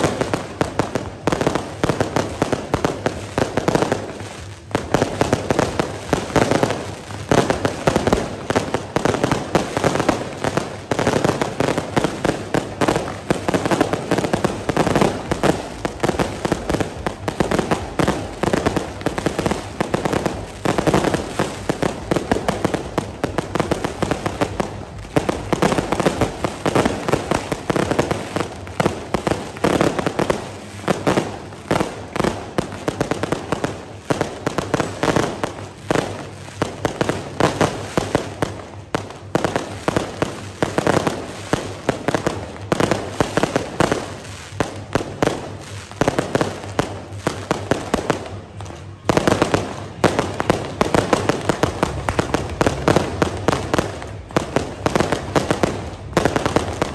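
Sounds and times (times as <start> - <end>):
firecrackers and fireworks bangs: 0.0 - 56.9.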